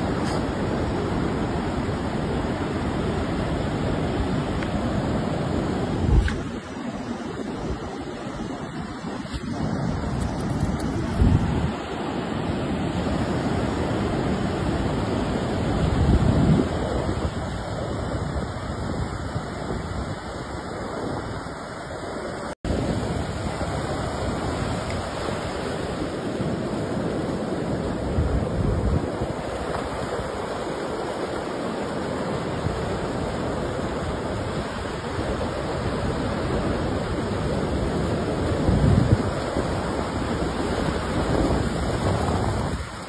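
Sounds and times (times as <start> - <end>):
surf breaking on beach: 0.0 - 43.0
wind buffeting microphone: 2.0 - 12.1, 15.6 - 21.6, 22.7 - 43.0.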